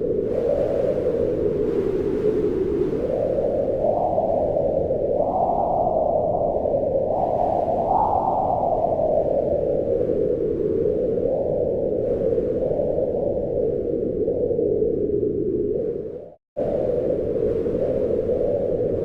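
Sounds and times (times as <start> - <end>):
wind blowing in gusts: 0.0 - 19.0.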